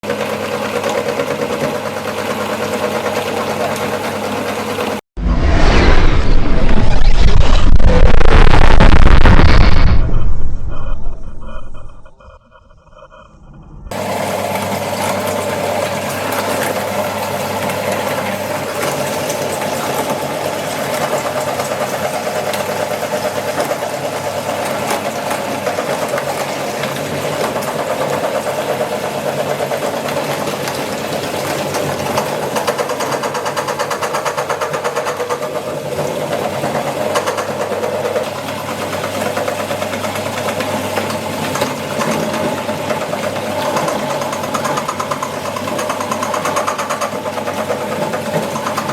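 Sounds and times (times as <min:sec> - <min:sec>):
electric meat grinder running: 0:00.0 - 0:05.0, 0:14.0 - 0:48.9.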